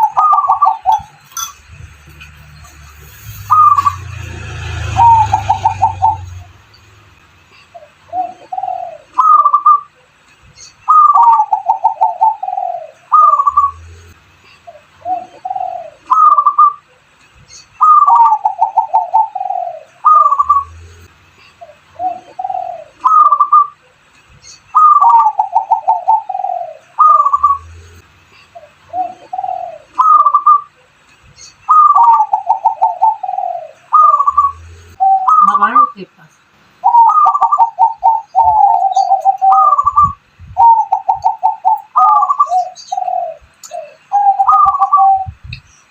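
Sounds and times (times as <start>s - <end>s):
dove cooing: 0.0s - 1.6s, 3.5s - 6.5s, 7.8s - 9.9s, 10.9s - 16.8s, 17.8s - 23.8s, 24.8s - 28.0s, 28.6s - 30.7s, 31.7s - 36.0s, 36.8s - 45.4s.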